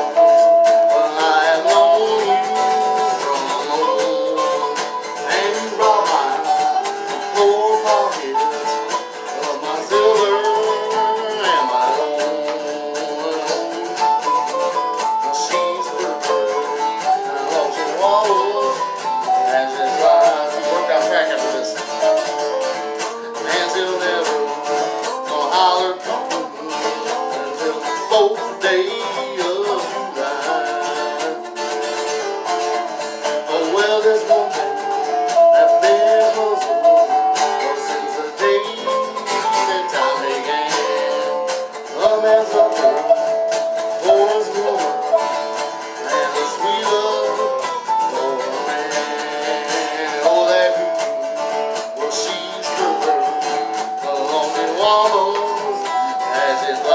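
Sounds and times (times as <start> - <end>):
person singing: 0.0 - 56.9
plucked string melody: 0.0 - 56.9
strummed guitar rhythm: 0.0 - 56.9.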